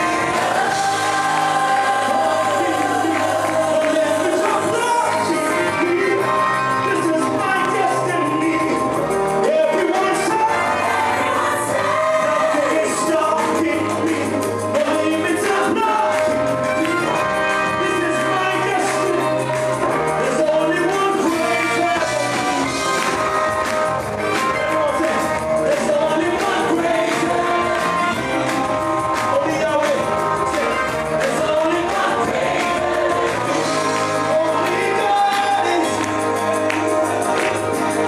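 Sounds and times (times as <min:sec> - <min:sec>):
gospel band playing: 0:00.0 - 0:38.0
group of people singing: 0:00.0 - 0:38.0.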